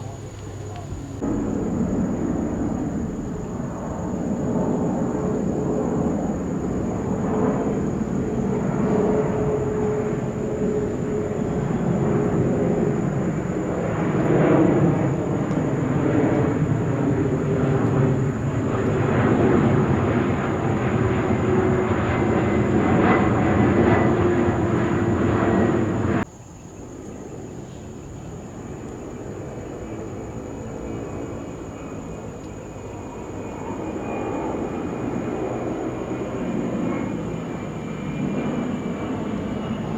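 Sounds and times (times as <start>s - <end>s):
airliner engines running: 0.0s - 39.9s
faint high whine: 0.0s - 39.9s.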